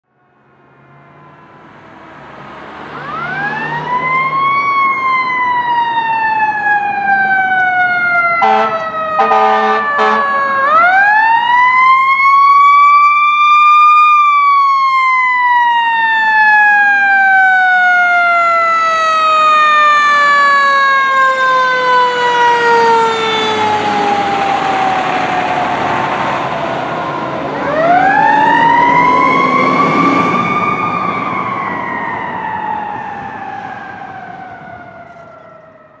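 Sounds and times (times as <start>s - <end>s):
fire truck siren wailing: 0.0s - 36.0s
road noise: 0.0s - 36.0s
truck engine: 0.2s - 35.8s.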